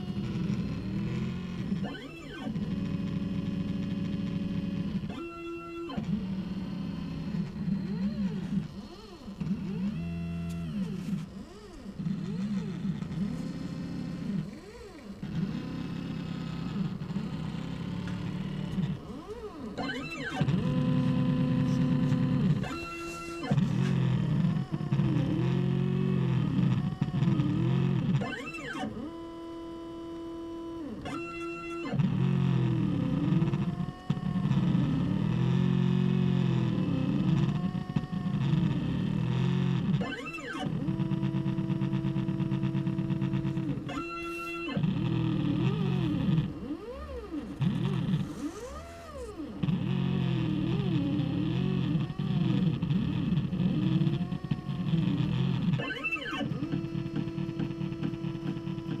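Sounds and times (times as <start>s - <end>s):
stepper motor tones: 0.0s - 59.0s.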